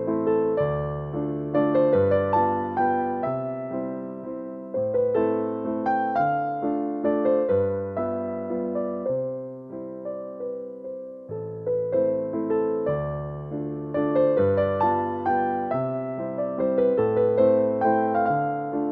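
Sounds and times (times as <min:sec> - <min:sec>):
slow piano melody: 0:00.0 - 0:18.9.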